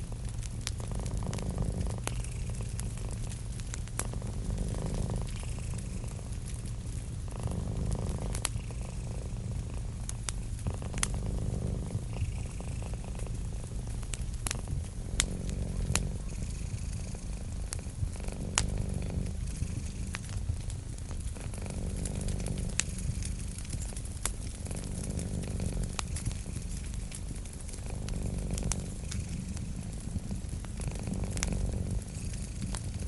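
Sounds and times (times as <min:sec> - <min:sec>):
cat purring: 0:00.0 - 0:33.0
wood fire crackling: 0:00.0 - 0:33.0.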